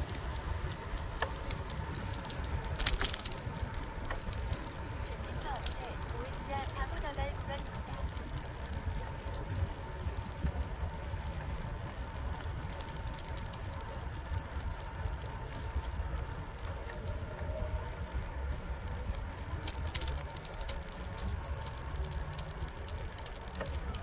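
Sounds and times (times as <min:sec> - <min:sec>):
bicycle tyres rumbling on pavement: 0:00.0 - 0:24.0.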